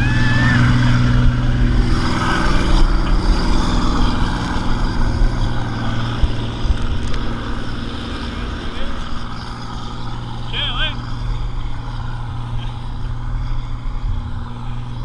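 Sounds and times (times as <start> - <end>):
speedboat engine running: 0.0 - 15.0
wind buffeting microphone: 0.0 - 15.0.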